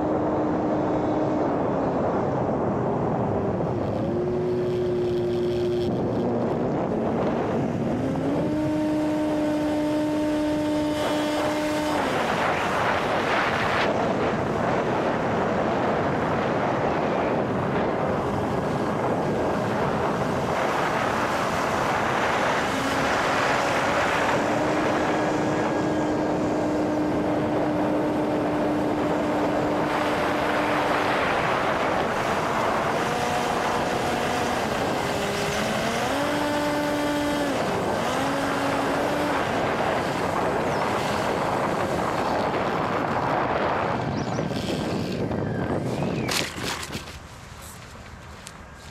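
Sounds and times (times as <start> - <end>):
wind rush on microphone: 0.0 - 48.9
model airplane motor humming: 3.2 - 47.2.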